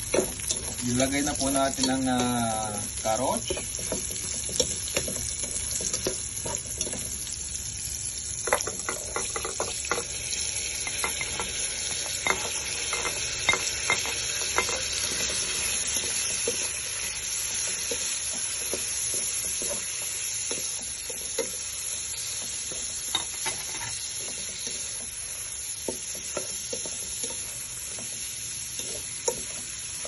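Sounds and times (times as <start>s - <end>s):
vegetables sizzling in a frying pan: 0.0s - 30.0s
spatula scraping and tapping pan: 3.3s - 7.2s, 8.4s - 10.2s, 10.8s - 30.0s.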